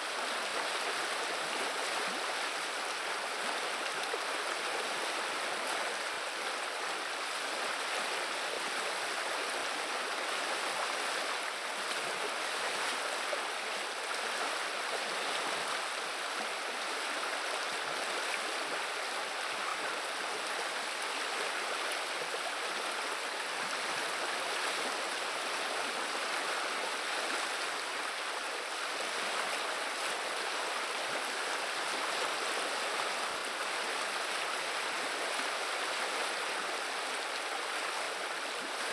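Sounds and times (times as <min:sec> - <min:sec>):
river water running: 0:00.0 - 0:38.9.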